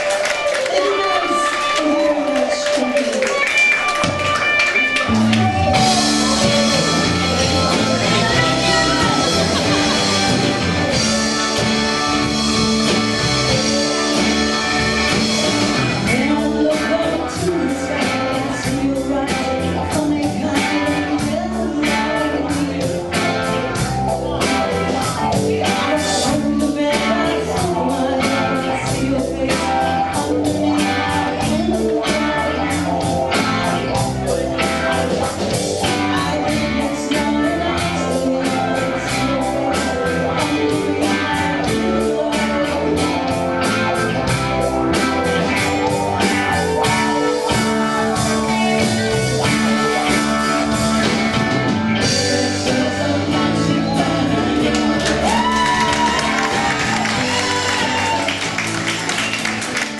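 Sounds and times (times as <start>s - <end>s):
electric guitar: 0.0s - 59.9s
person singing: 0.0s - 59.9s
steady drum beat: 3.9s - 59.9s.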